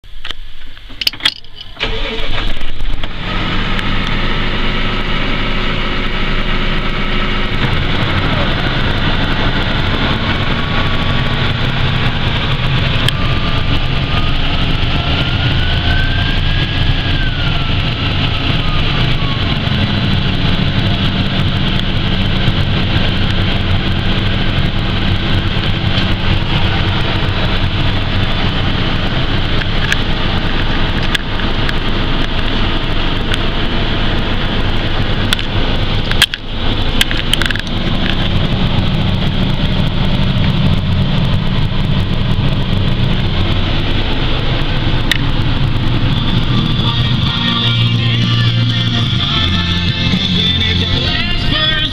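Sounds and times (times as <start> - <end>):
high whine: 0.0 - 51.9
tractor diesel engine running: 0.0 - 51.9.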